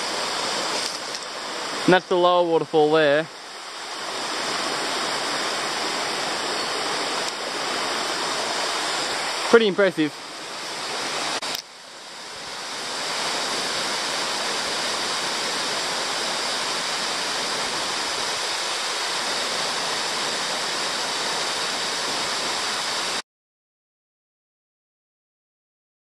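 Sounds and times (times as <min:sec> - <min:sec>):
waterfall rushing: 0:00.0 - 0:23.2.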